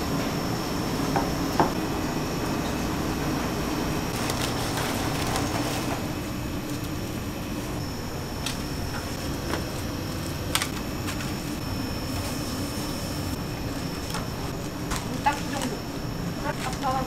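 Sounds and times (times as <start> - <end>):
kitchen machinery hum: 0.0 - 17.0
thin high whine: 0.0 - 17.0.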